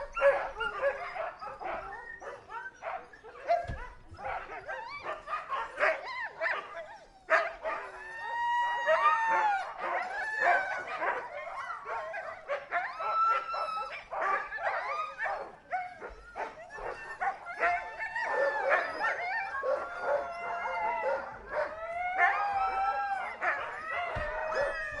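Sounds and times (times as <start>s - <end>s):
huskies barking and yipping: 0.0s - 25.0s
huskies howling: 0.0s - 25.0s.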